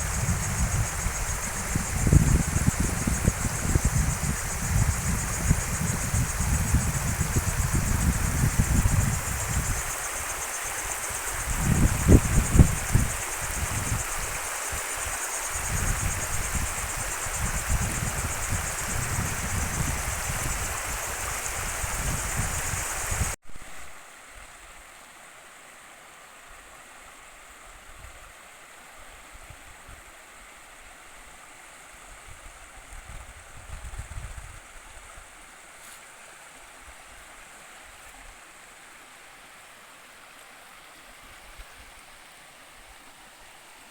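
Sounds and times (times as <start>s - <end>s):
stream water rushing: 0.0s - 29.5s, 35.0s - 43.9s
faint hiss: 0.0s - 43.9s.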